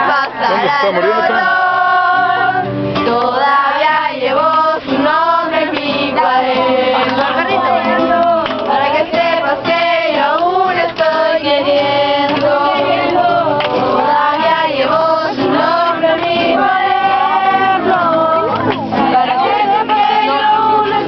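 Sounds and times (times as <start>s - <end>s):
group of people singing: 0.0s - 21.0s.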